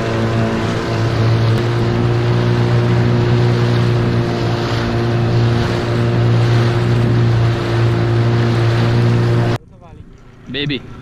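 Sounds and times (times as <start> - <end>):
outboard motor hum: 0.0 - 11.0
water rushing: 0.0 - 11.0.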